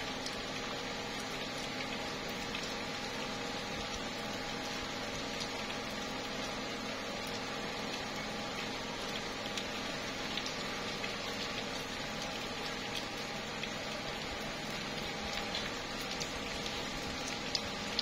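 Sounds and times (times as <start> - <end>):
rain falling on leaves: 0.0 - 18.0
single raindrops ticking: 0.2 - 18.0.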